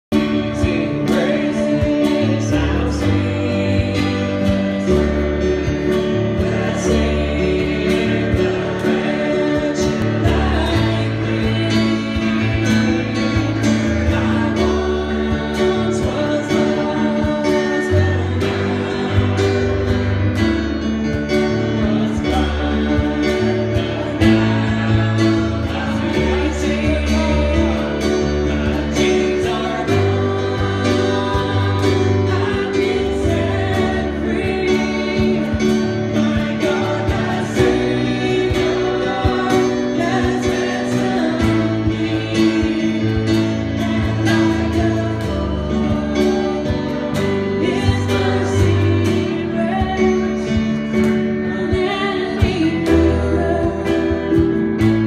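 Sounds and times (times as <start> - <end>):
acoustic guitar: 0.0 - 55.0
bass: 0.0 - 55.0
electric guitar: 0.0 - 55.0
keyboard: 0.0 - 55.0
voices singing: 0.0 - 55.0.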